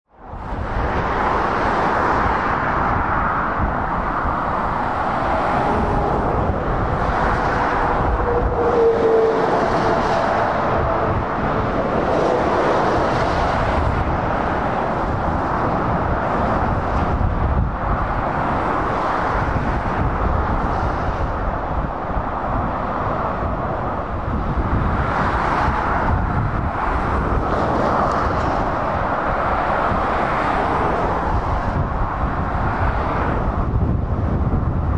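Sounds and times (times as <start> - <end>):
road traffic passing: 0.1 - 34.9
lorries driving by: 0.2 - 34.9.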